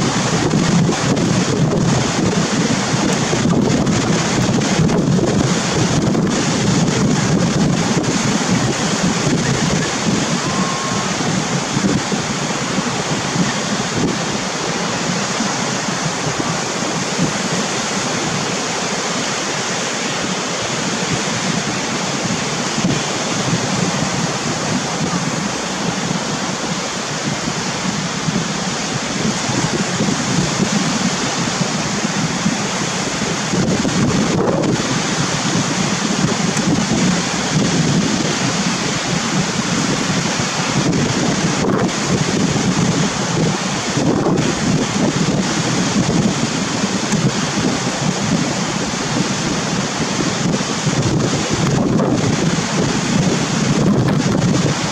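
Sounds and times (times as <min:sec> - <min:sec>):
waves breaking: 0:00.0 - 0:54.9
wind buffeting microphone: 0:00.0 - 0:54.9.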